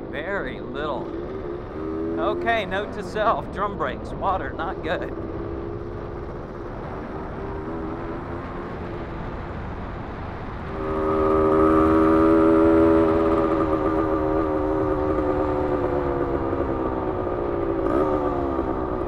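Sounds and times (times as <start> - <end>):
two-stroke motorcycle engine revving: 0.0 - 9.7, 10.5 - 19.0.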